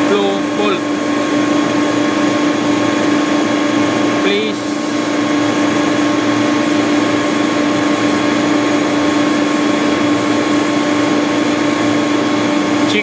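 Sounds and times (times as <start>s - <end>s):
compressor running: 0.0s - 13.0s.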